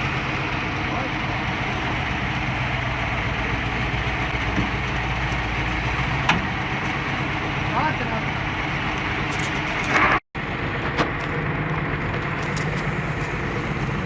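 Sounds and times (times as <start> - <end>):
heavy machine engine drone: 0.0 - 14.0.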